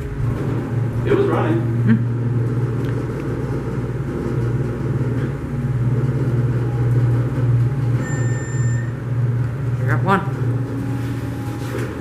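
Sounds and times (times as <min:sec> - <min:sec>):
elevator pump motor humming: 0:00.0 - 0:12.0.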